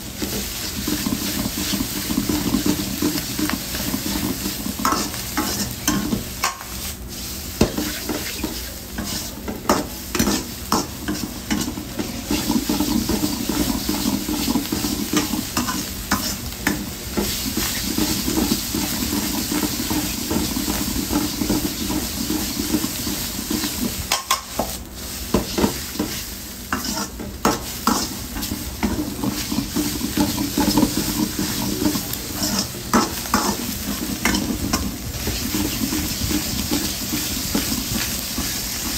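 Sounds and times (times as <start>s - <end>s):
noodles sizzling in a wok: 0.0s - 38.9s.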